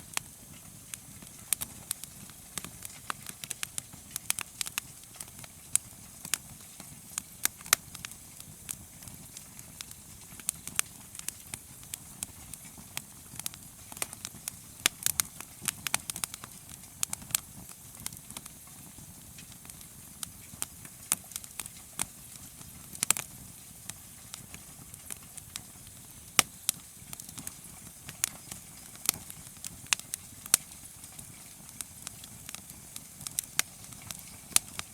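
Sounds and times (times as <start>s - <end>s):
campfire crackling: 0.0s - 34.9s.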